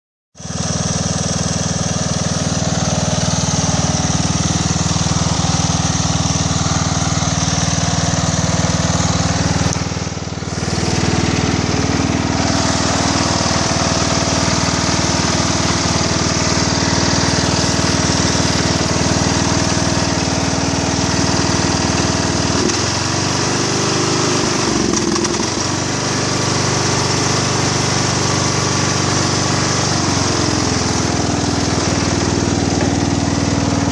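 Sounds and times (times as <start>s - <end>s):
ride-on mower running: 0.4s - 33.9s.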